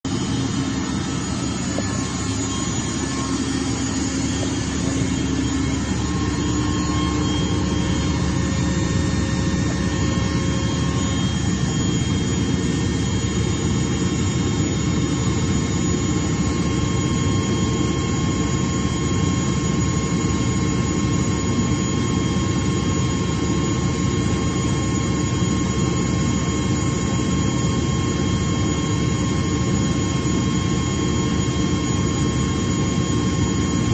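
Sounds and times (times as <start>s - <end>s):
air compressor drone: 0.0s - 33.9s.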